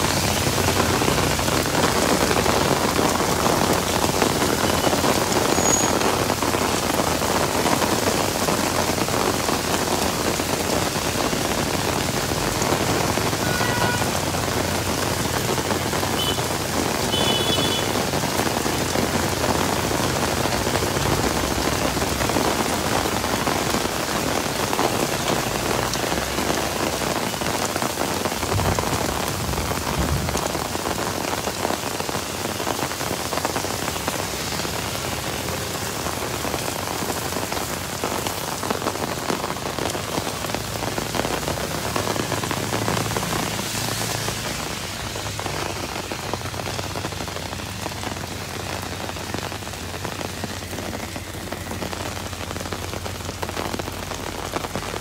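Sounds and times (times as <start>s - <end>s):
heavy rain on an umbrella: 0.0s - 55.0s.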